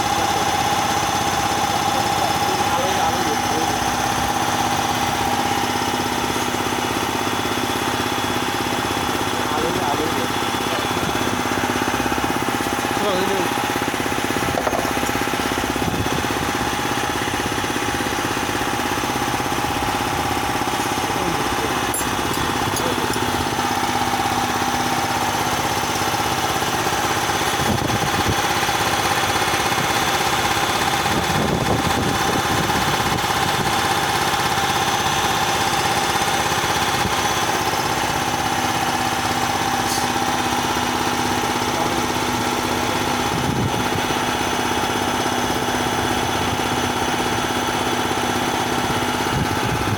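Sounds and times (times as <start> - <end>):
air compressor running: 0.0 - 49.9.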